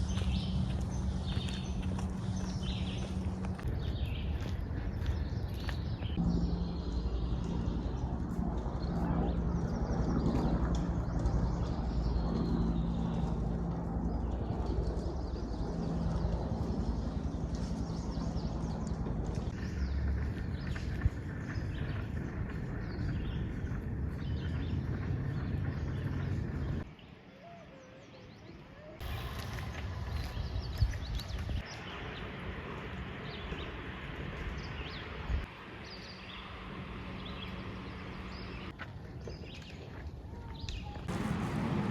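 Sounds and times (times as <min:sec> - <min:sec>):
low rumble and hum: 0:00.0 - 0:26.9, 0:29.0 - 0:38.8, 0:40.9 - 0:41.9
small birds chirping: 0:00.0 - 0:41.9.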